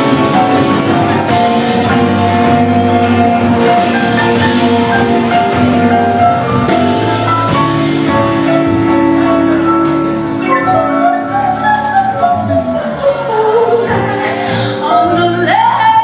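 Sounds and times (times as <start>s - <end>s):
live band playing instrumental: 0.0s - 16.0s.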